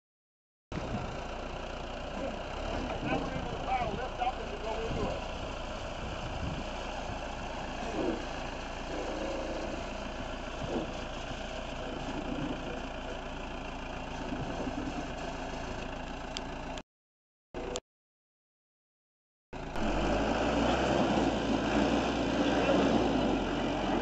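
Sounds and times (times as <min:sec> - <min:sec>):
vehicle engine running at low revs: 0:00.8 - 0:16.8, 0:19.6 - 0:24.0.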